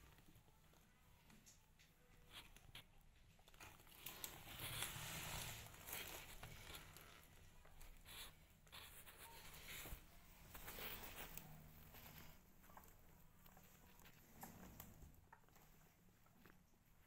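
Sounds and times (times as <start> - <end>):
faint scratchy rustling: 0.0 - 17.0.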